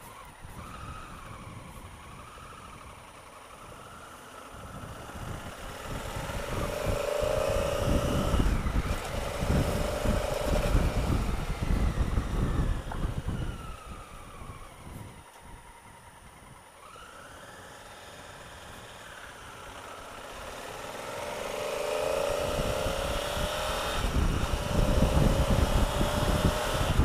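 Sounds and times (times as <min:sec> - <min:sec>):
wind rumble on microphone: 0:00.0 - 0:17.0, 0:21.5 - 0:27.0
motorcycle engine running: 0:00.0 - 0:27.0.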